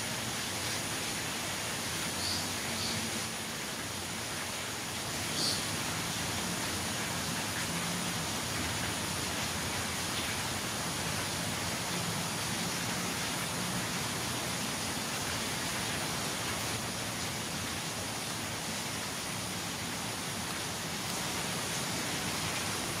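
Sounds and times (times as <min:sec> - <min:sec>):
forest ambience hiss: 0:00.0 - 0:23.0.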